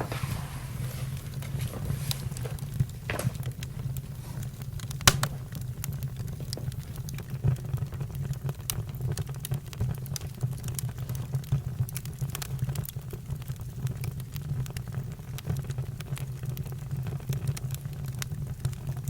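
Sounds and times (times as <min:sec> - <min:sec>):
campfire wood crackling and popping: 0:00.0 - 0:19.0.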